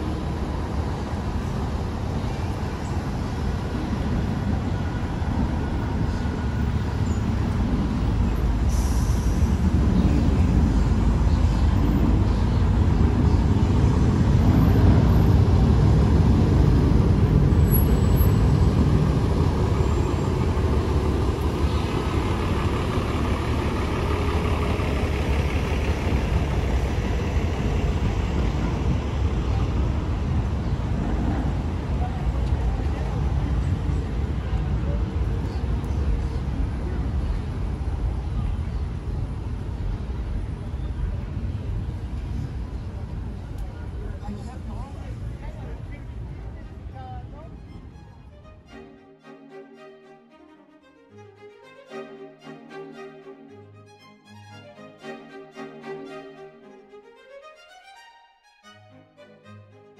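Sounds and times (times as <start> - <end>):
street traffic rumble: 0.0 - 56.9.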